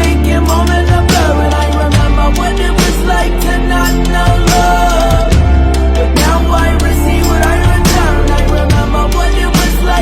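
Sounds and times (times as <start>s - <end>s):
music with heavy bass and drums: 0.0s - 10.0s
person singing: 0.0s - 10.0s.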